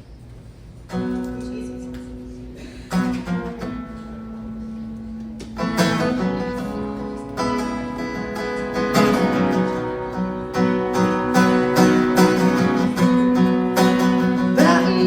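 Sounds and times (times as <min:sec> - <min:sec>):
acoustic guitar strummed chords: 0:00.9 - 0:15.0.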